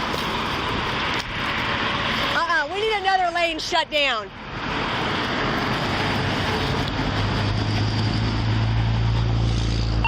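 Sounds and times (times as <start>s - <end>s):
freeway traffic rush: 0.0s - 10.0s
vehicle engine hum: 0.0s - 10.0s.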